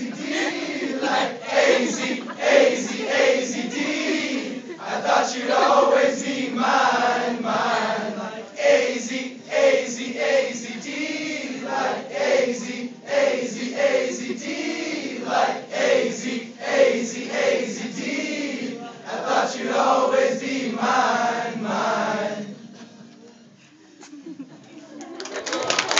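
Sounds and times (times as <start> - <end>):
group of men singing: 0.0 - 22.6.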